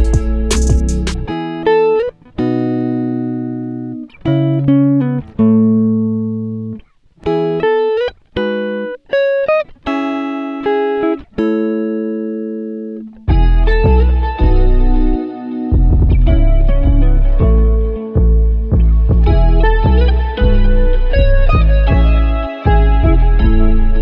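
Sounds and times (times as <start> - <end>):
solo guitar picking: 0.0 - 24.0.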